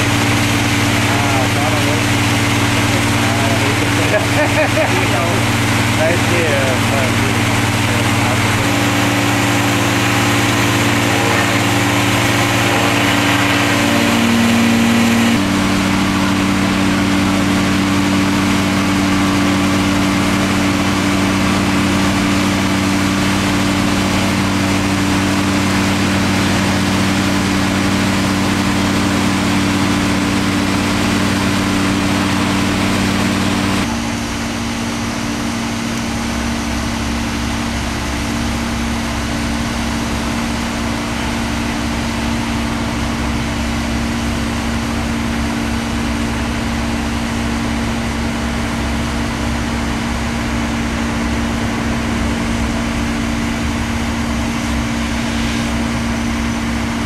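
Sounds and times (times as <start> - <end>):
heavy machinery engines droning: 0.0 - 57.0.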